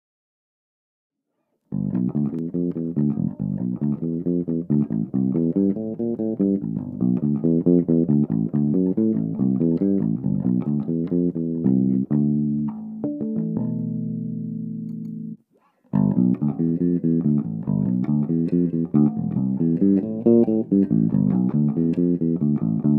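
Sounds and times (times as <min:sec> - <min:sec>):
guitar plucked notes: 0:01.7 - 0:22.9.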